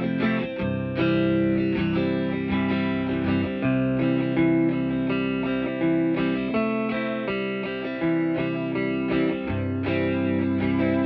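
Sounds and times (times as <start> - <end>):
electric guitar chords with chorus: 0.0 - 11.0.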